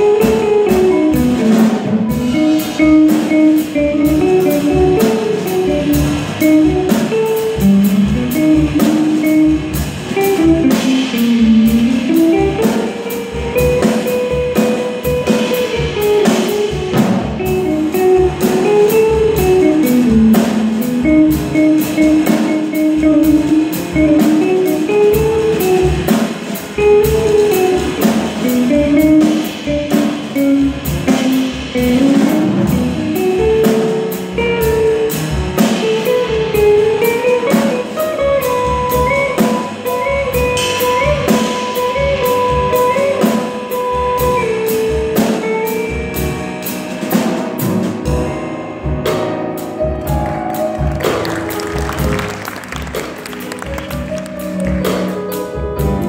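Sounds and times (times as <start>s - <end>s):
drum cymbals keeping time: 0.0s - 56.0s
piano accompaniment: 0.0s - 56.0s.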